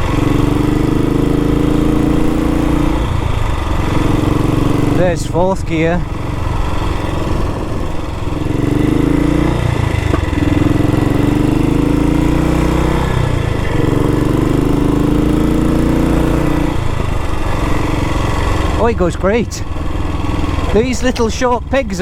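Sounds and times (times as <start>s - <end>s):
motorcycle engine under load: 0.0s - 22.0s.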